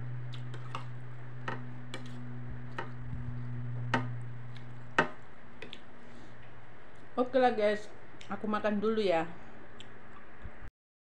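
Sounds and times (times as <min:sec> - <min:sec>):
low electrical hum: 0:00.0 - 0:10.7.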